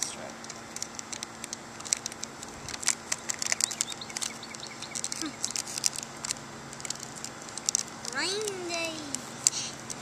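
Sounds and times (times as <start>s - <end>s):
plastic bottle crinkling: 0.4s - 10.0s.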